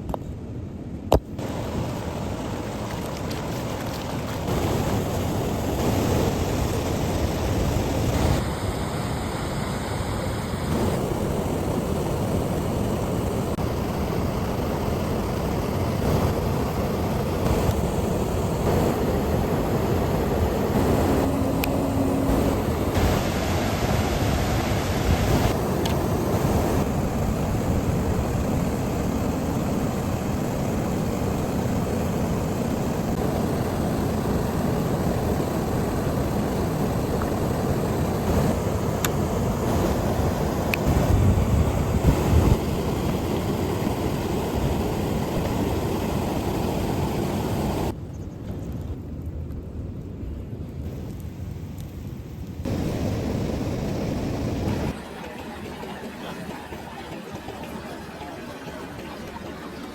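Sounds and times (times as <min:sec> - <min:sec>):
river rushing: 0:01.4 - 0:47.9, 0:52.7 - 0:59.6.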